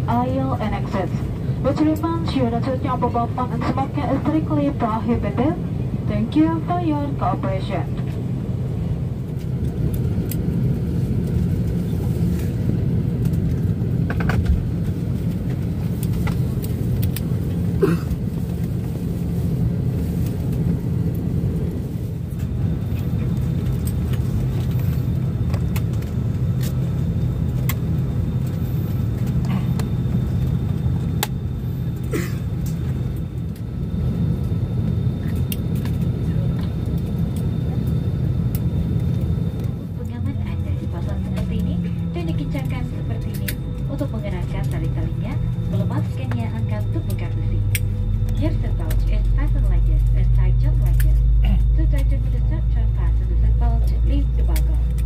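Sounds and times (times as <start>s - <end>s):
airliner cabin hum: 0.0s - 55.0s.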